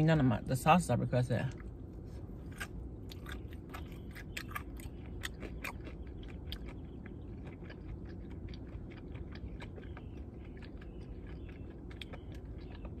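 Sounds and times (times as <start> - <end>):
steady low hum: 0.0 - 13.0
chewing crispy fried chicken: 1.5 - 13.0.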